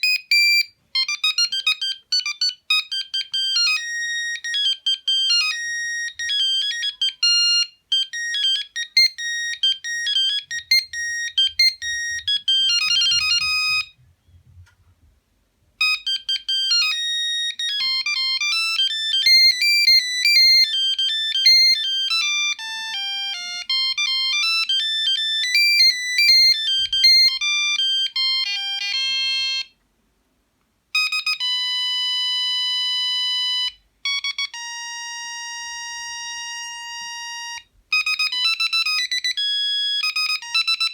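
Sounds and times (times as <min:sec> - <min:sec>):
phone ringtone beeping melodies: 0:00.0 - 0:14.1, 0:15.8 - 0:29.8, 0:31.0 - 0:40.9.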